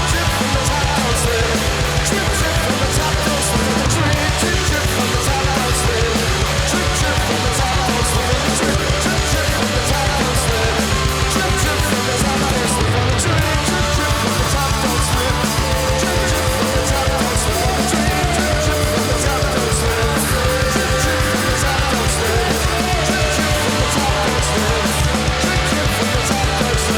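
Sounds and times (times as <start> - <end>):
bass guitar: 0.0 - 26.9
distorted electric guitars: 0.0 - 26.9
drums with cymbal hits: 0.0 - 26.9.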